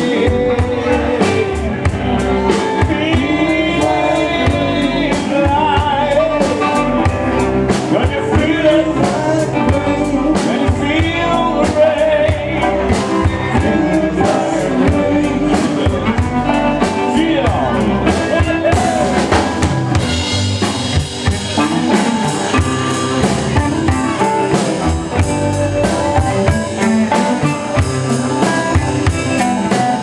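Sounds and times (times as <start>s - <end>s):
live blues-rock band playing: 0.0s - 30.0s
person singing: 0.0s - 30.0s
steady drum beat: 0.0s - 30.0s.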